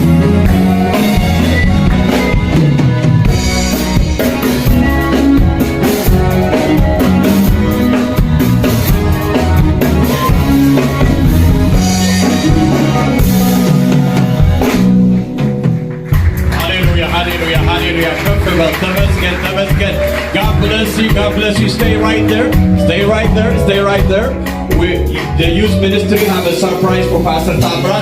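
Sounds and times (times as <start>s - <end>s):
band music: 0.0s - 28.0s
drum kit beat: 0.0s - 28.0s.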